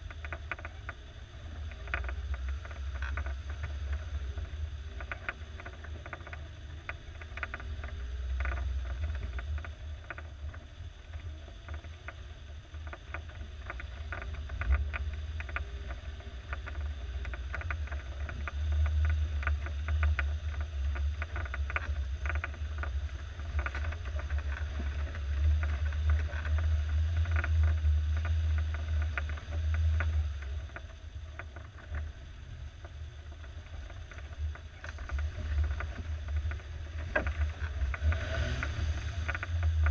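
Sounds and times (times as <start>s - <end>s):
mud and stones clicking under tyres: 0.0s - 39.9s.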